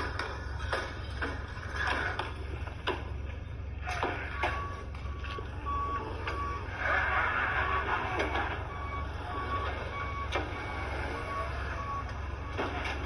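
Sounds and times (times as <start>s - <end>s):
low engine rumble: 0.0s - 13.0s
reversing alarm beeping: 2.1s - 13.0s.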